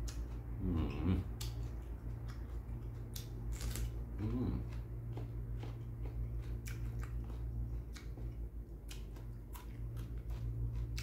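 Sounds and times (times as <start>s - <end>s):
person chewing cucumber crunching: 0.0s - 11.0s
steady low hum: 0.0s - 11.0s.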